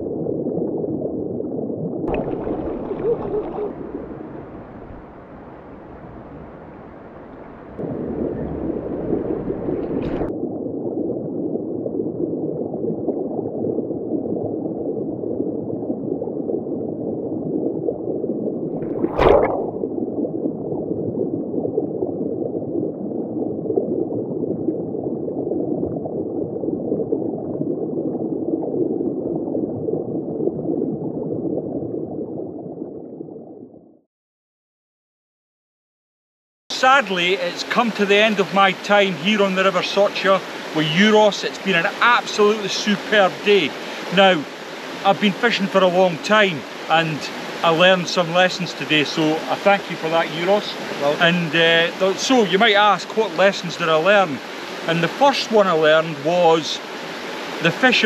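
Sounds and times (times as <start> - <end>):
underwater river current gurgling: 0.0 - 33.8, 36.7 - 58.0.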